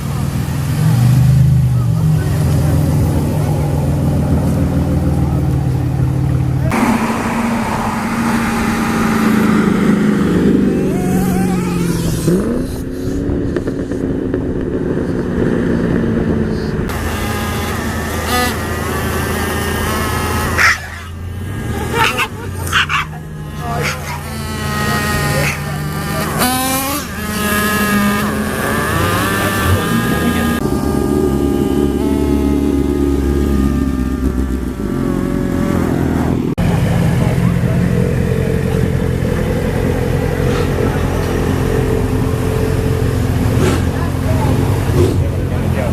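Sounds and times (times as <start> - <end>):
vehicle engine running and revving: 0.0 - 45.9.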